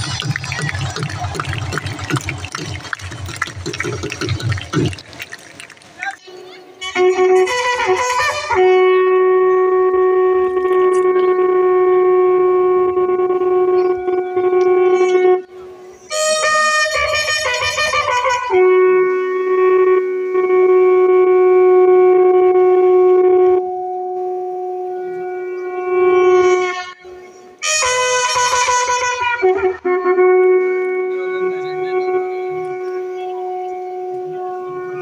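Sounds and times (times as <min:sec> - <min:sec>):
long ceremonial calls: 0:05.5 - 0:35.0.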